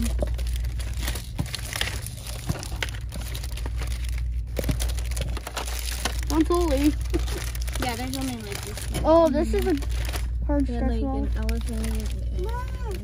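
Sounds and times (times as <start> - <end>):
rustling and crinkling handling noise: 0.0 - 13.0
steady low hum: 0.0 - 13.0.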